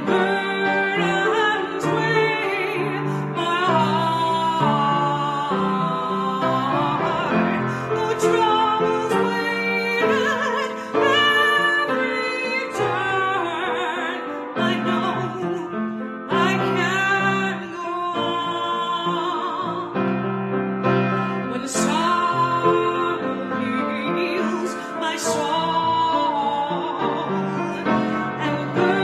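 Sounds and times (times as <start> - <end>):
person singing a hymn: 0.0 - 29.0
piano accompaniment: 0.0 - 29.0.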